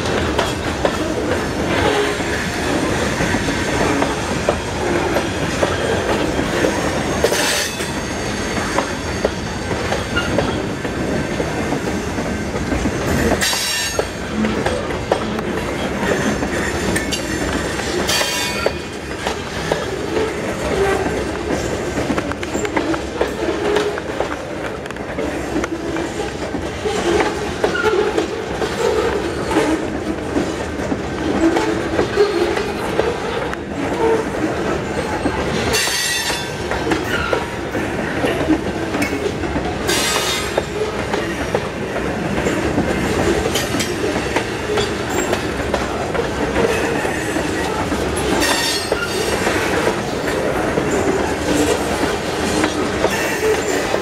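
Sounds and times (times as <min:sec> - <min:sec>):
clickety-clack over rail joints: 0:00.0 - 0:54.0
steel wheels rumbling on rail: 0:00.0 - 0:54.0.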